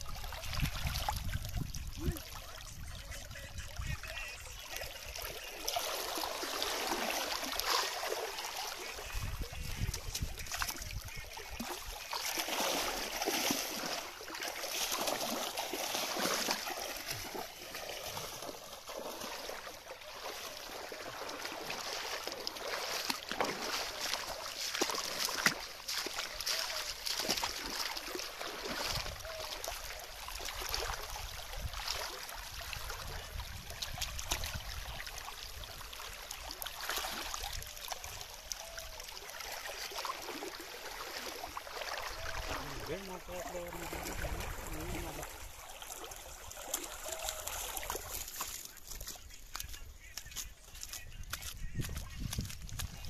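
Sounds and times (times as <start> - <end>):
river water flowing and splashing: 0.0 - 53.0.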